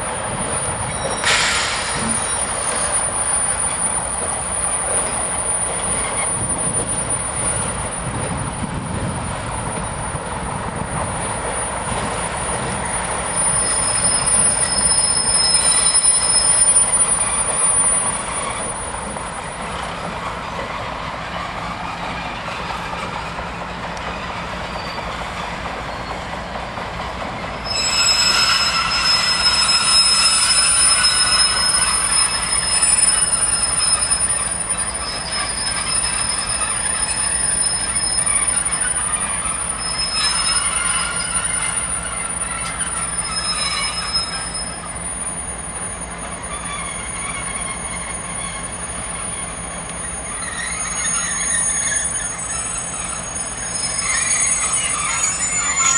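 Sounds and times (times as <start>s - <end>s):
low train rumble: 0.0s - 55.9s
train wheels squealing on rails: 0.0s - 55.9s.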